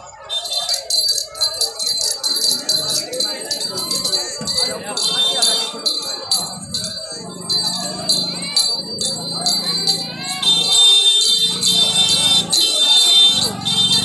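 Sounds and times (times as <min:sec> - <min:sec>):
small bells jingling: 0:00.0 - 0:14.0
music: 0:00.3 - 0:14.0.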